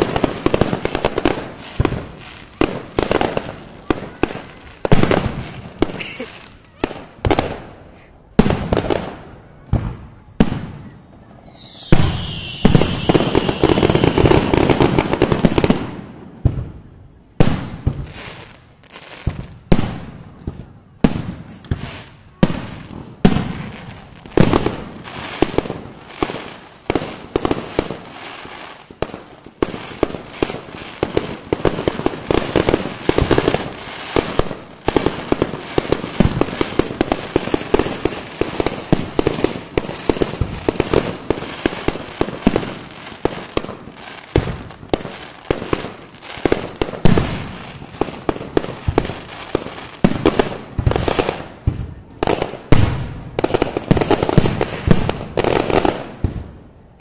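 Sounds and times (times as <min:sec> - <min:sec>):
fireworks bursting: 0:00.0 - 0:57.0
fireworks crackle: 0:00.0 - 0:57.0.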